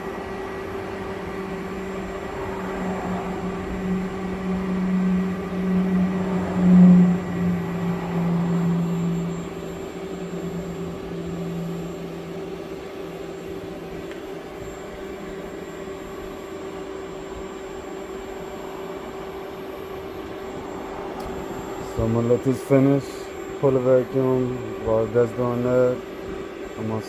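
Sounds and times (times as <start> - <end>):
machine mechanical hum: 0.0 - 27.0.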